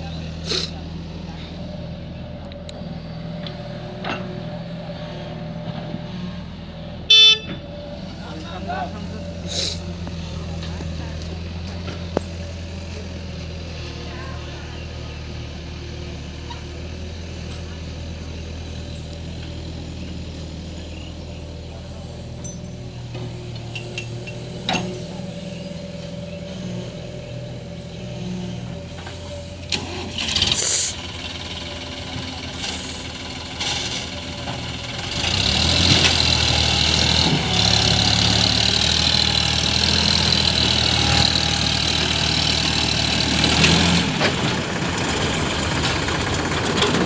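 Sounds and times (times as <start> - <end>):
tractor diesel engine: 0.0 - 47.0.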